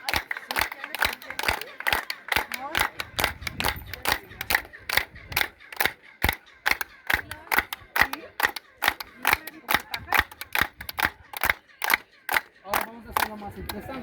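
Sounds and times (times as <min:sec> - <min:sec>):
hand claps: 0:00.0 - 0:14.0
chirping echo: 0:00.7 - 0:14.0.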